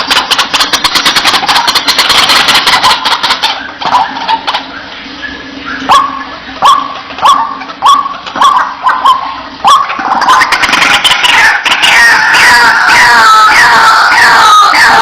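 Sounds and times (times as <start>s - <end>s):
waterhen calling sharp notes: 0.0s - 15.0s.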